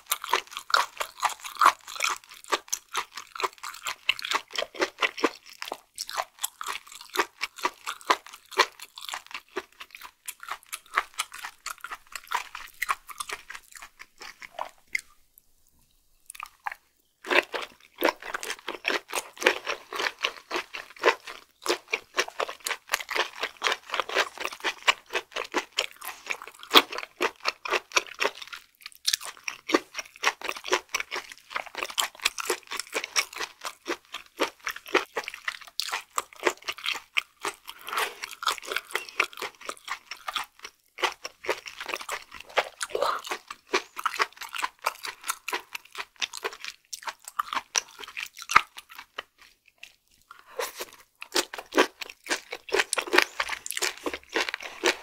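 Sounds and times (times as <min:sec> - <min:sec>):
wet chewing clicks and smacks: 0:00.0 - 0:15.2, 0:16.2 - 0:55.0.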